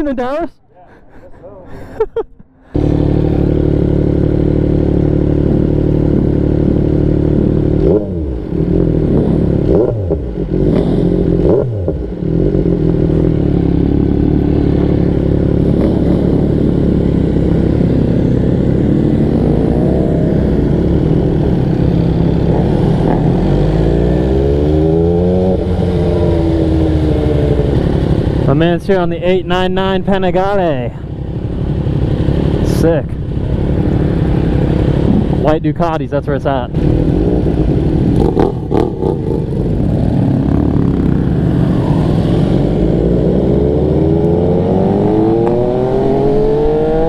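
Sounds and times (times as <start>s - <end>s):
motorcycle engine drone: 1.0s - 47.0s.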